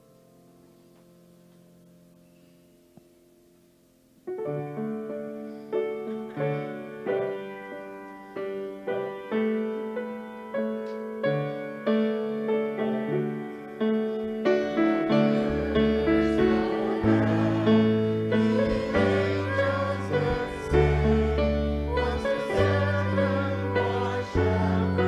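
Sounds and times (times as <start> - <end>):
piano chords: 0.0 - 25.0.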